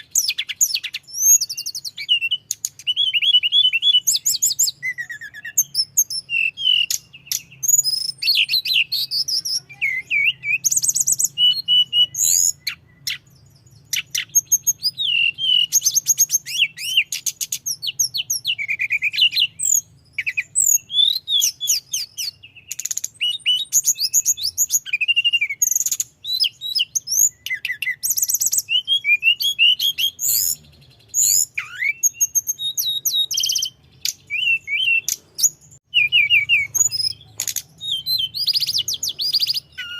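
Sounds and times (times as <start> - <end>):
bird chirping and whistling: 0.0 - 39.9.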